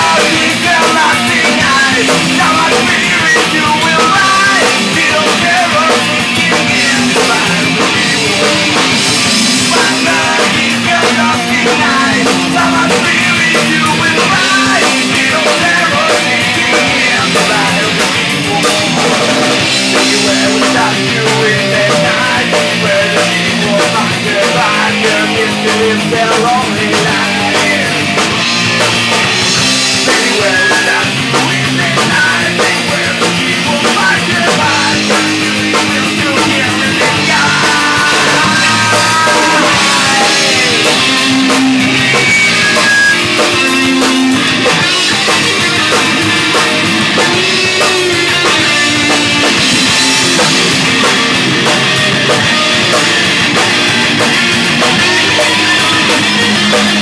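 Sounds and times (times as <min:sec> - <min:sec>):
bass guitar: 0:00.0 - 0:57.0
distorted electric guitars: 0:00.0 - 0:57.0
drum kit: 0:00.0 - 0:57.0.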